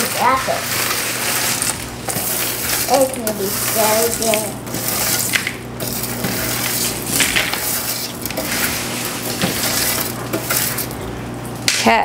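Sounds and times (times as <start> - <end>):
snack mix rustling and crunching: 0.0 - 11.6.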